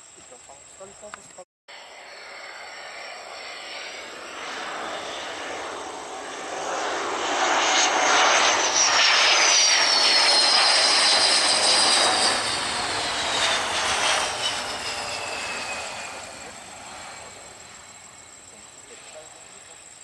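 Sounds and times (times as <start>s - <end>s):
airliner engines whining: 0.0s - 20.0s.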